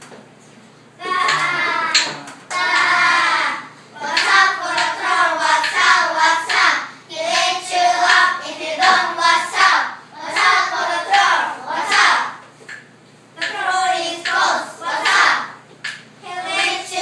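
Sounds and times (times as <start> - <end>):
young children singing: 1.0 - 12.4, 13.4 - 15.6, 16.2 - 17.0.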